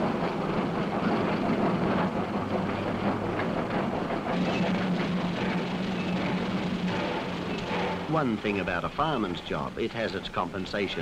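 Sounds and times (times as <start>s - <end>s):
steam locomotive and wagons running: 0.0s - 11.0s.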